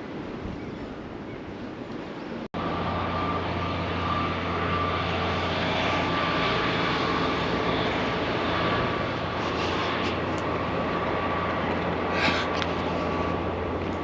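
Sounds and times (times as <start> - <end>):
diesel train engine droning: 2.6 - 14.0.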